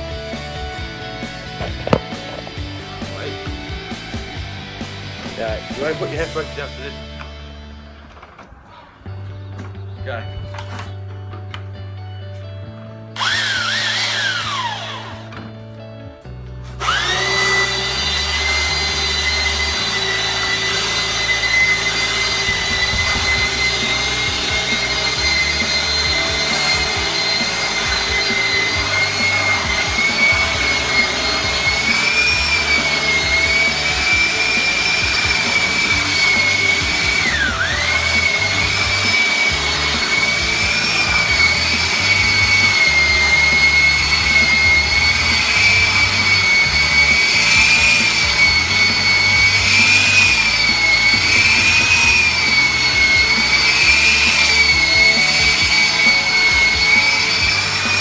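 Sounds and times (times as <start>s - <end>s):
power tool whining: 0.0s - 11.9s, 12.7s - 15.8s, 16.6s - 58.0s.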